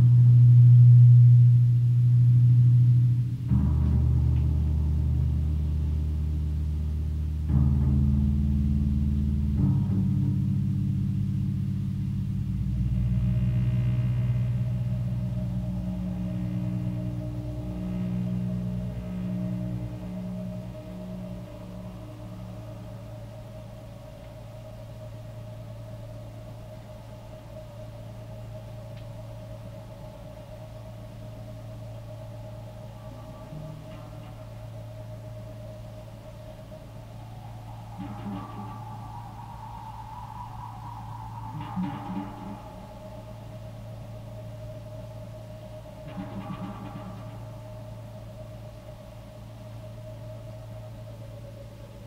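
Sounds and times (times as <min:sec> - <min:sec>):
deep synthesizer drones: 0:00.0 - 0:52.0.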